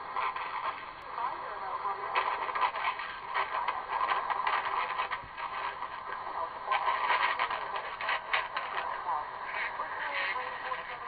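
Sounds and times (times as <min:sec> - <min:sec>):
radio hiss and crackle: 0:00.0 - 0:11.0
voice on radio: 0:00.0 - 0:11.0.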